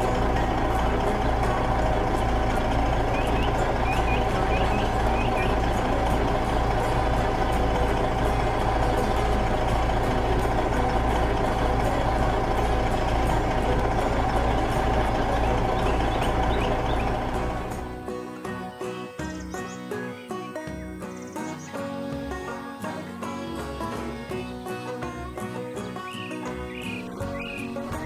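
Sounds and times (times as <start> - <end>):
constant whine: 0.0 - 28.0
heavy truck engine rumbling: 0.0 - 28.0.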